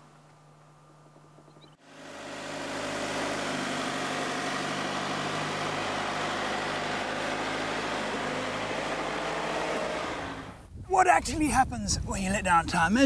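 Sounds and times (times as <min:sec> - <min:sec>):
engine humming at low revs: 0:00.0 - 0:10.7.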